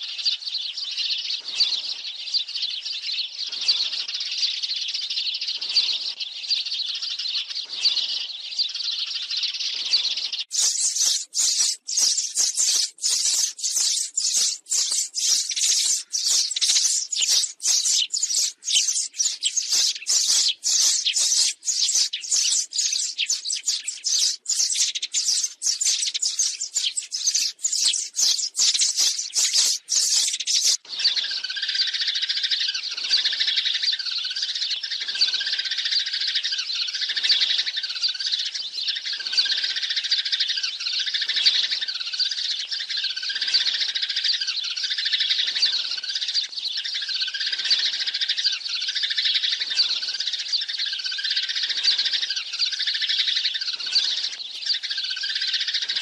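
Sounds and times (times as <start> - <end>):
sparrows chirping and chattering: 0.0 - 56.0.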